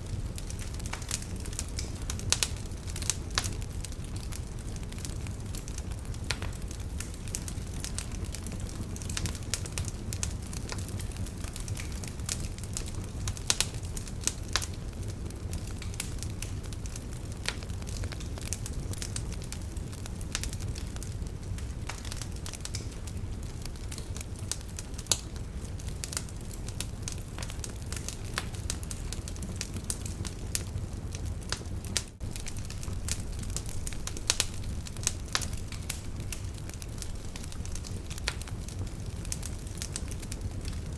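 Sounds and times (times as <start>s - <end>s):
fire flames rumbling: 0.0s - 40.9s
logs crackling and popping: 0.0s - 40.9s.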